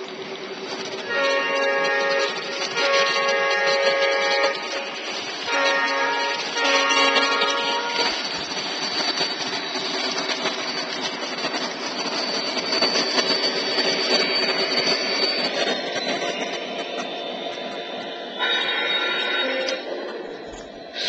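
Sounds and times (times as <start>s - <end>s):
model train running: 0.0s - 21.0s
thin high whine: 0.0s - 21.0s.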